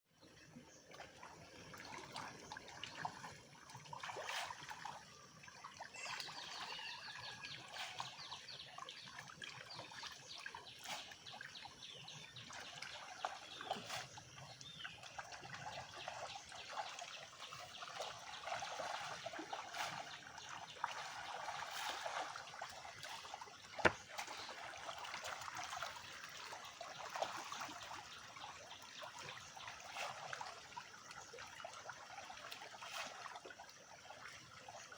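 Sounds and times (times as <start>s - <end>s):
water trickling and splashing: 0.2s - 34.9s.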